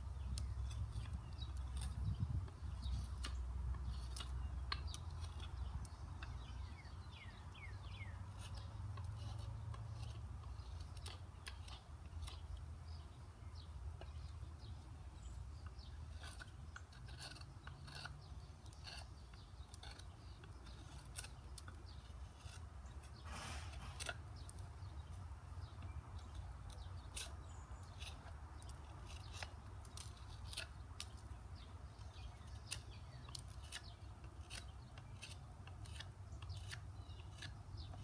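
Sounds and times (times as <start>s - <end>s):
knife blade scraping bark: 0.2s - 13.0s, 15.2s - 38.0s.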